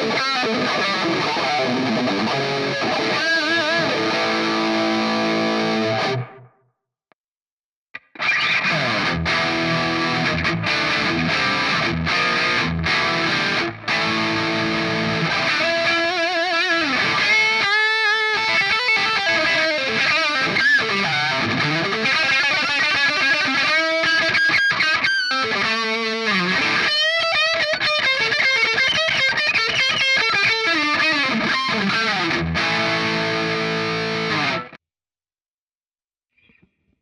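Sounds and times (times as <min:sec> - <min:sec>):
electric guitar lead line: 0:00.0 - 0:06.5, 0:08.0 - 0:34.8.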